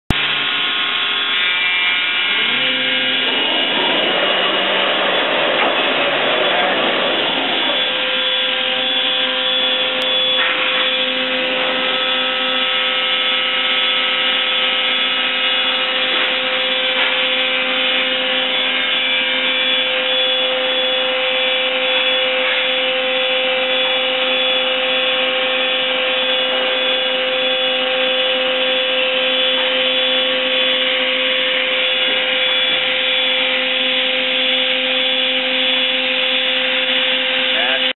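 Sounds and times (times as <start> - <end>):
cnc router machine whine: 0.1 - 37.9.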